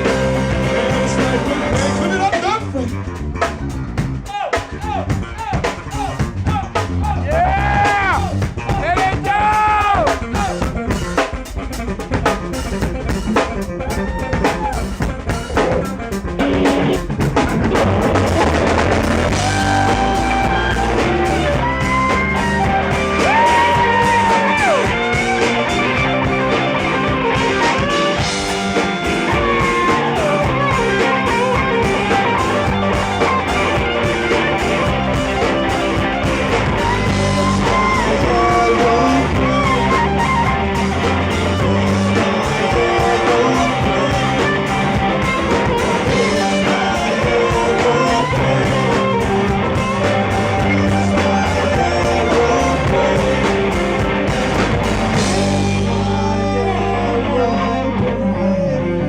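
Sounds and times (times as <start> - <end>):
bass guitar: 0.0 - 59.0
bending electric guitar notes: 0.0 - 59.0
drums: 0.0 - 59.0.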